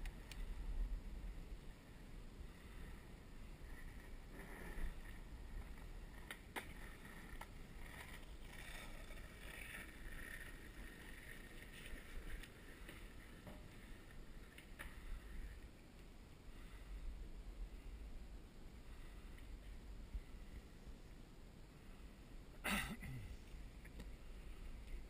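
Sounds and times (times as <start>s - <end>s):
bicycle road hiss: 0.0s - 25.0s.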